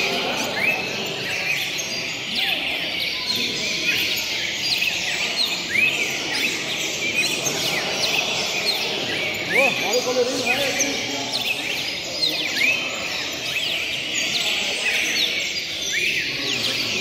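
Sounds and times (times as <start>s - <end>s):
birds singing chirps: 0.0s - 17.0s
steady background noise: 0.0s - 17.0s.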